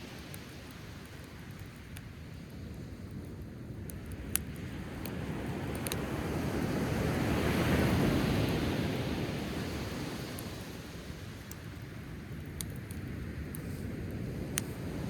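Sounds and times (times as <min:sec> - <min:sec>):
campfire crackles: 0:00.0 - 0:15.0.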